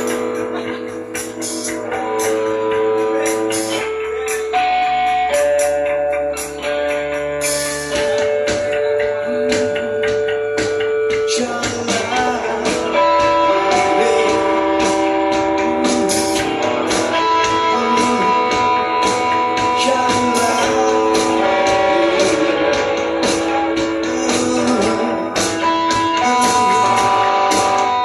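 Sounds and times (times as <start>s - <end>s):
long held guitar notes: 0.0s - 28.0s
steady drum beat: 0.0s - 28.0s.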